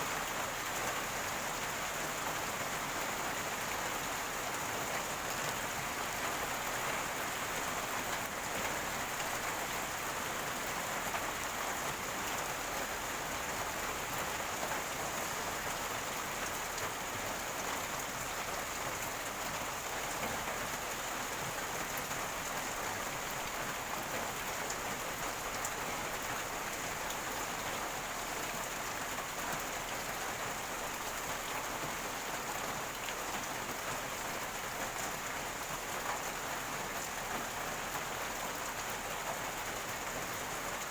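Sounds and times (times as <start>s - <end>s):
rain water falling and gurgling: 0.0s - 40.9s.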